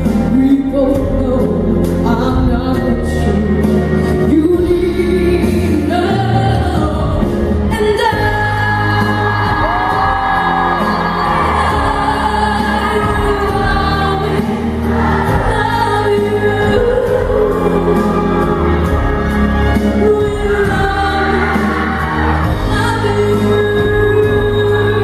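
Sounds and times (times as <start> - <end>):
instrumental accompaniment: 0.0 - 25.0
woman singing a slow ballad: 0.0 - 25.0.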